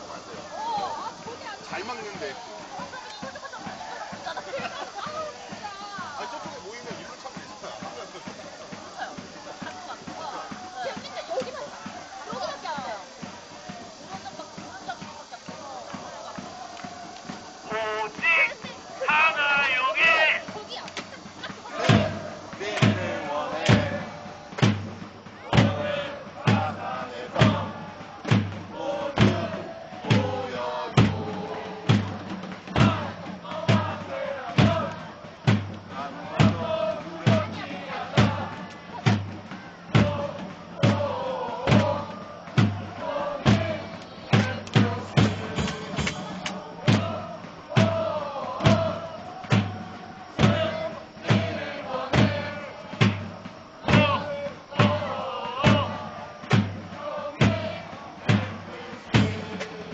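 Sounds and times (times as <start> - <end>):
big drum beats: 0.0 - 59.9
crowd chanting in unison: 0.0 - 59.9.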